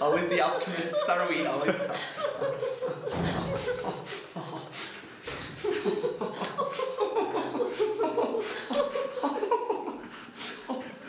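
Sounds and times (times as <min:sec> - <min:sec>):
man laughing: 0:00.0 - 0:10.0
woman laughing: 0:00.6 - 0:11.0.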